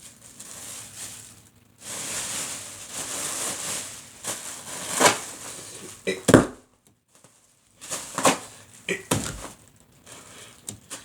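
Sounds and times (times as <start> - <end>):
plastic bag crinkling: 0.0 - 6.0, 7.3 - 11.0.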